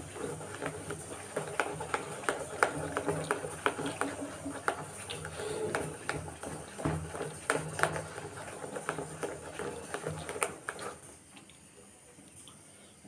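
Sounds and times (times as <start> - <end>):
hand beating batter in bowl: 0.0 - 11.2.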